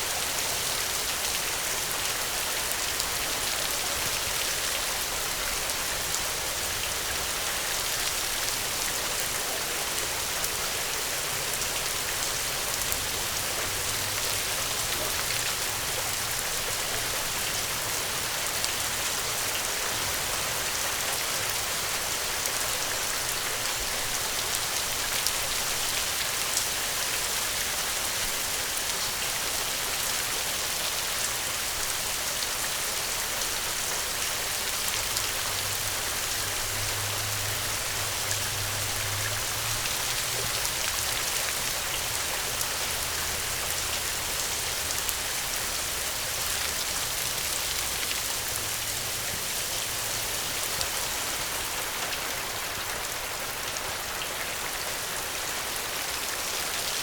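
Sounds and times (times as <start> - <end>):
steady rainfall: 0.0 - 57.0
raindrops pattering on a surface: 0.1 - 57.0.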